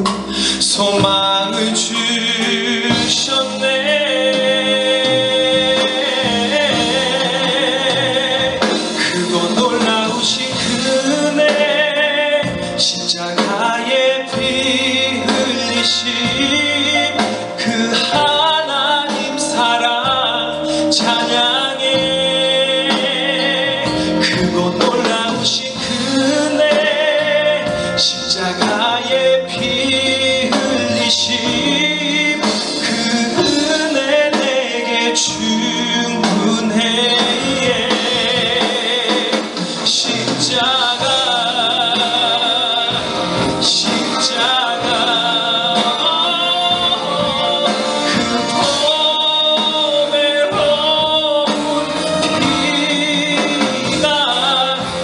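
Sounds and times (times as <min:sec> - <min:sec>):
instrumental backing track: 0:00.0 - 0:55.0
man singing into a microphone: 0:00.0 - 0:55.0.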